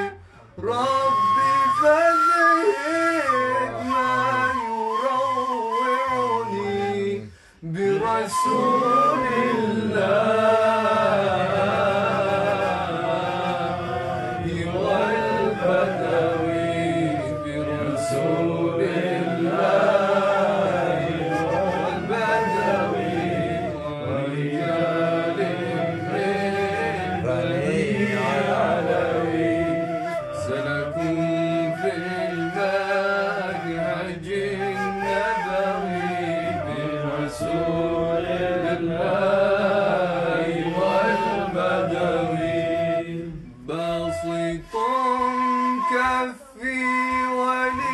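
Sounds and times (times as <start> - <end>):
voices chanting a devotional song: 2.7 - 47.9.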